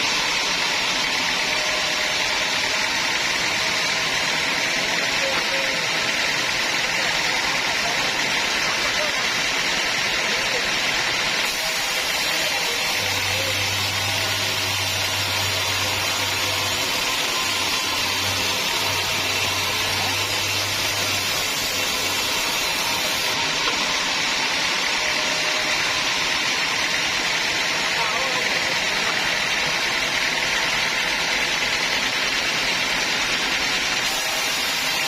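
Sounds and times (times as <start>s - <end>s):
sawmill machinery hissing: 0.0s - 35.0s.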